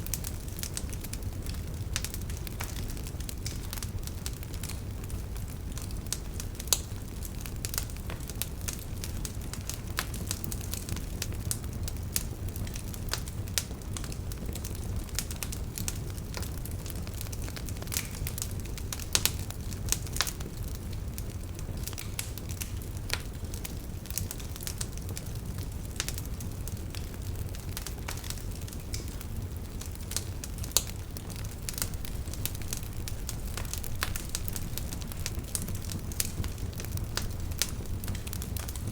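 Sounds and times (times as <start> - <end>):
campfire rumble and crackles: 0.0 - 38.9
fire popping: 0.0 - 38.9.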